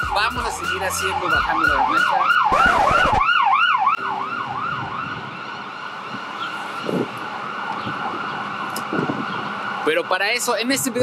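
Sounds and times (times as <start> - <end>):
siren yelping: 0.0 - 11.0
street traffic noise: 0.0 - 11.0.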